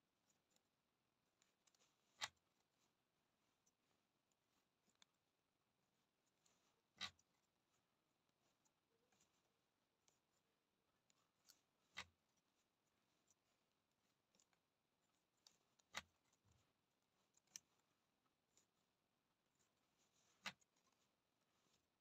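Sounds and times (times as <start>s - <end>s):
net-making handling clicks and rubs: 0.1s - 22.0s.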